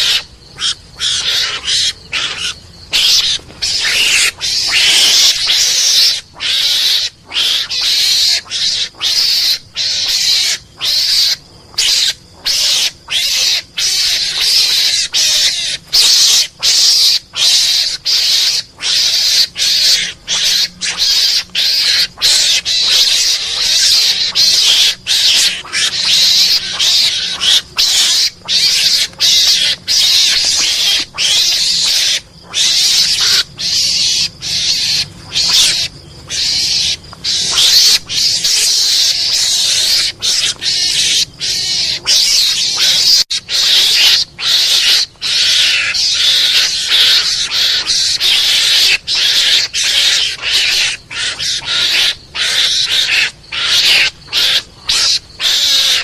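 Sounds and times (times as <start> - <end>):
mongoose screeching: 0.0 - 56.0.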